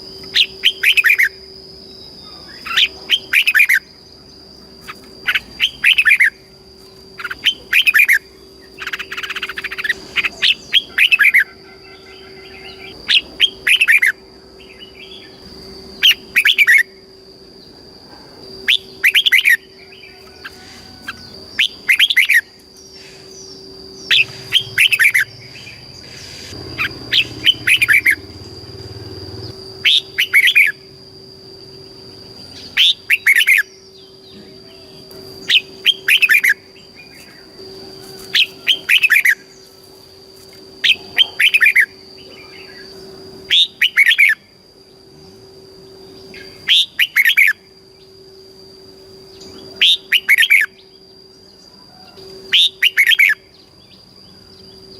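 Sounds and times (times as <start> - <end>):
faint high whine: 0.0 - 54.9
bird singing whistled notes: 0.1 - 4.0, 4.8 - 6.4, 7.2 - 17.0, 18.6 - 30.9, 31.6 - 39.7, 40.8 - 44.6, 46.1 - 48.2, 49.3 - 54.9.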